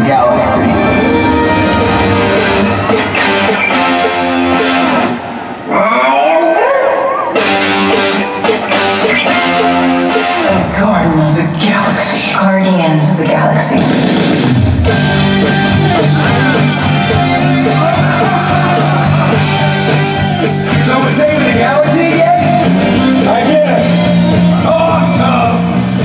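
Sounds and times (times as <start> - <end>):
sustained bass notes: 0.0 - 5.8, 7.4 - 26.0
soundtrack music with singing: 0.0 - 26.0.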